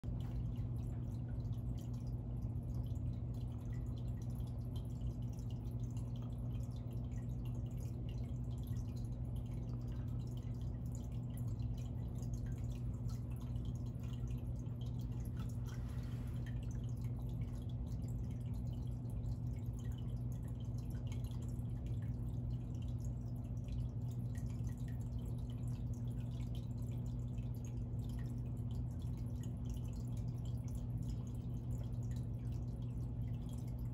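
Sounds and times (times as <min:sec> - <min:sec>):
low electrical hum: 0:00.0 - 0:33.9
water dripping and trickling: 0:00.0 - 0:33.9.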